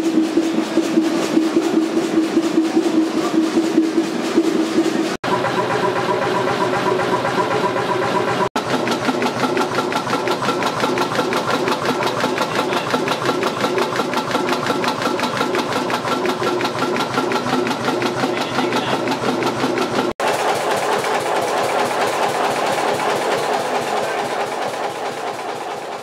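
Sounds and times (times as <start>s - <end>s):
engine knocking beat: 0.0s - 26.0s.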